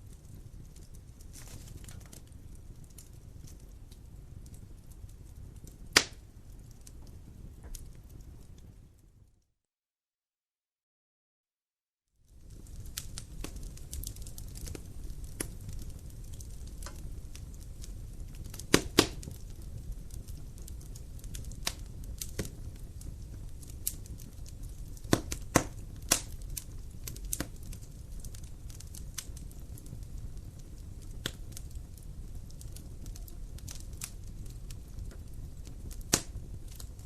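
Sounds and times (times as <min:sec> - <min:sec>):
wood fire crackling: 0:00.0 - 0:09.5, 0:12.1 - 0:37.0
sharp pops of burning wood: 0:00.1 - 0:08.3, 0:12.4 - 0:37.0.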